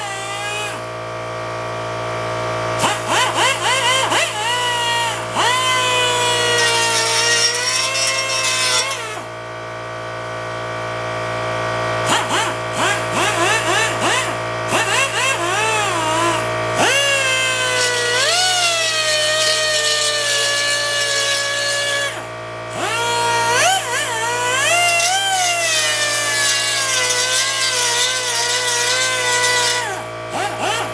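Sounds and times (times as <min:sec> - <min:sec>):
pneumatic grinder whining on metal: 0:00.0 - 0:30.9.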